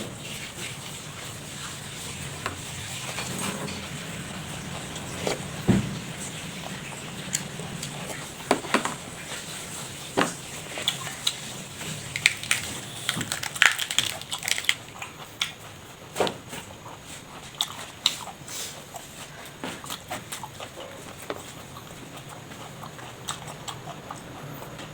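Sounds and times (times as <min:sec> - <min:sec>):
person chewing and crunching: 0:00.2 - 0:24.8.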